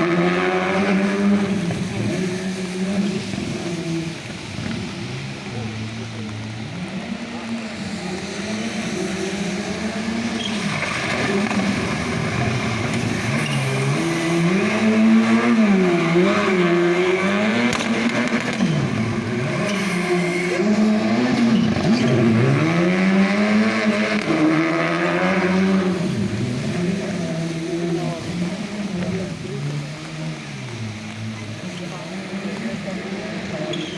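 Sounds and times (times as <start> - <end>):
rally car engine revving: 0.0 - 33.9.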